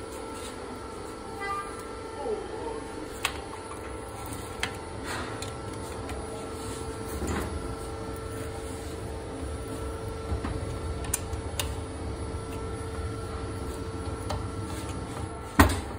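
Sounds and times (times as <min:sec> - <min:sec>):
steady mechanical hum: 0:00.0 - 0:15.9.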